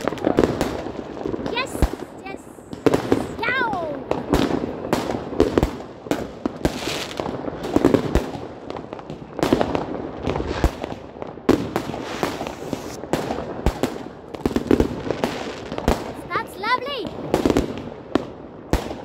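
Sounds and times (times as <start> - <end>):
fireworks bangs: 0.0 - 19.0
fireworks crackle: 0.0 - 19.0.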